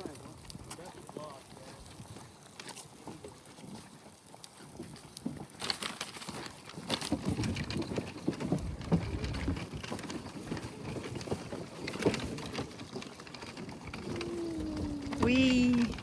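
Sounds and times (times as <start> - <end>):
footsteps crunching on trail: 0.2 - 13.2.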